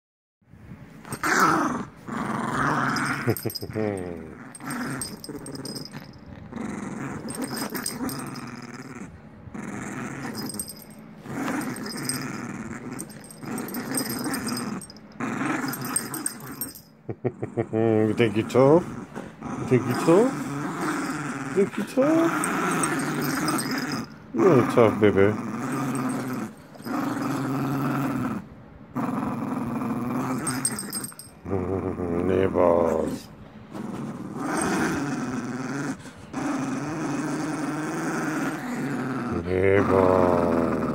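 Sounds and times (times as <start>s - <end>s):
puppy growling: 1.0s - 40.9s.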